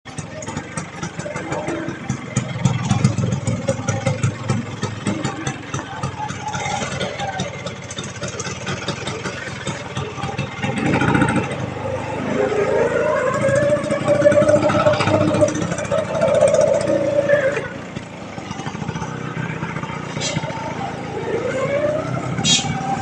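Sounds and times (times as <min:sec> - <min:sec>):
scooter engine running unevenly: 0:00.0 - 0:23.0.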